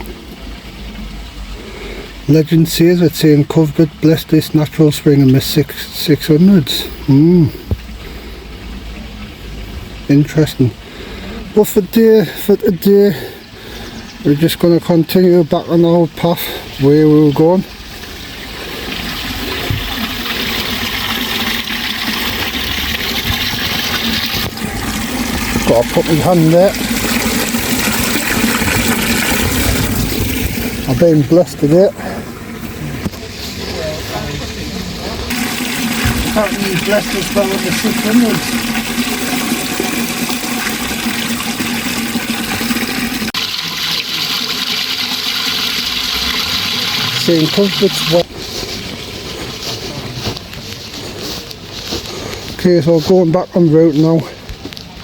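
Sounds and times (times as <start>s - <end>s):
spring water splashing: 0.0s - 49.6s.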